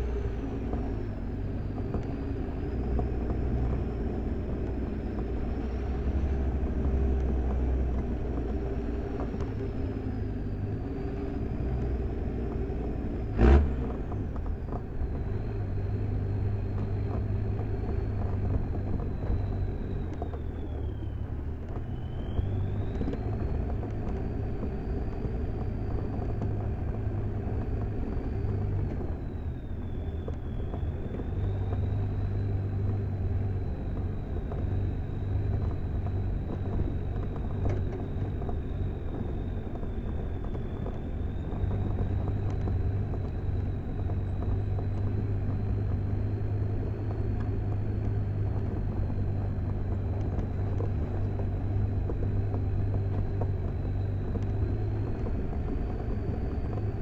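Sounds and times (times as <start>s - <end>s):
diesel engine rumbling: 0.0s - 57.0s
engine whine: 0.0s - 57.0s.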